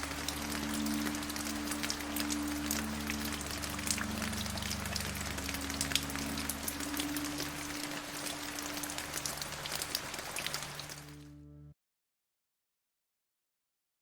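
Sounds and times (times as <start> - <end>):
rain drops pattering: 0.0 - 11.3.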